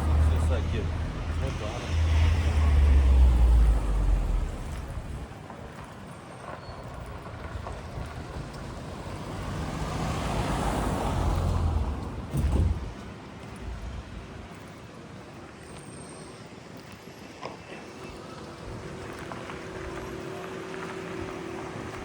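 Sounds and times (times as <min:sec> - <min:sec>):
car passing: 0:00.0 - 0:14.6, 0:17.6 - 0:22.0
vehicle low rumble: 0:00.0 - 0:15.8, 0:16.8 - 0:22.0.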